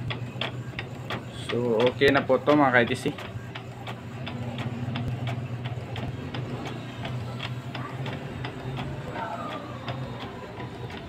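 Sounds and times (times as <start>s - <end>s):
printer clicks: 0.0s - 11.0s
printer motor hum: 0.0s - 11.0s.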